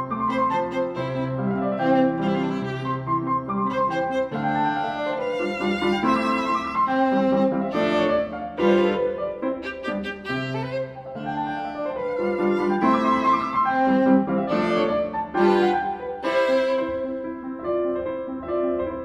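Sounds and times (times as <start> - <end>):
violin slow melody: 0.0 - 17.9
piano accompaniment: 0.0 - 19.0.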